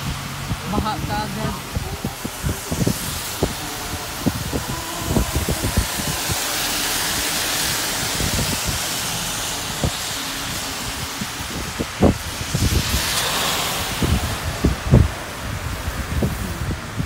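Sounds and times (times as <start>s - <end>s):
car passing: 0.0s - 17.0s
car tyres hissing on wet road: 0.0s - 17.0s.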